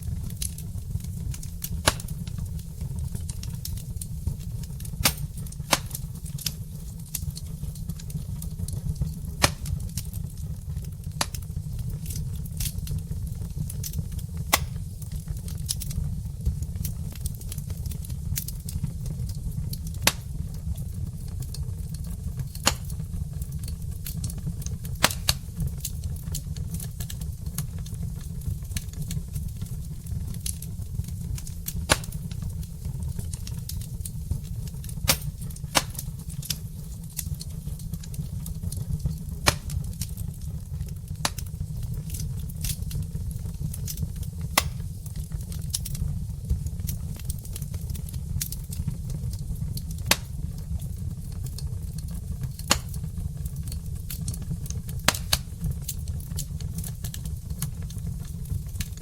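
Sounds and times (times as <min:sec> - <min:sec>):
fire rumbling: 0:00.0 - 0:59.0
wood fire crackling and popping: 0:00.0 - 0:59.0.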